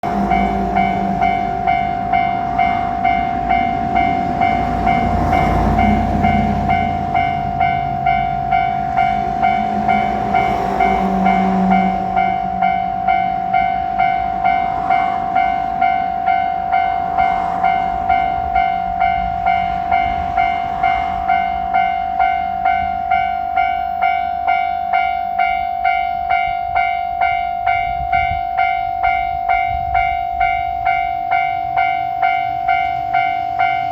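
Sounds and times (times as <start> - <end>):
diesel railcar engine and wheels: 0.0 - 33.9
railroad crossing alarm ringing: 0.0 - 33.9.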